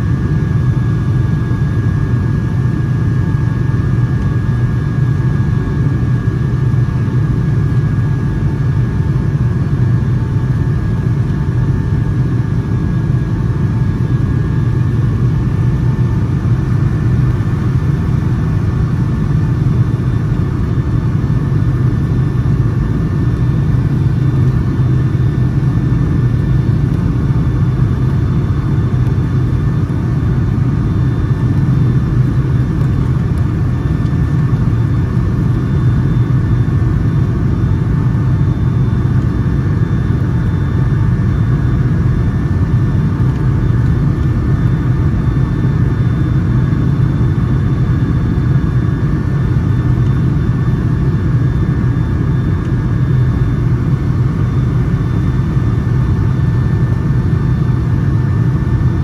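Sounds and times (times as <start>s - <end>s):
airplane cabin engine rumble: 0.0s - 59.0s
faint engine whine: 0.0s - 59.0s.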